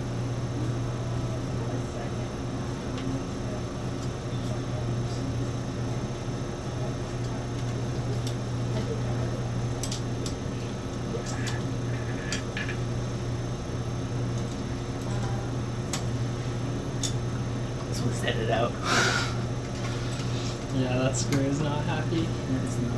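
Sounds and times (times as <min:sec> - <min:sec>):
low hum of lab equipment: 0:00.0 - 0:22.9.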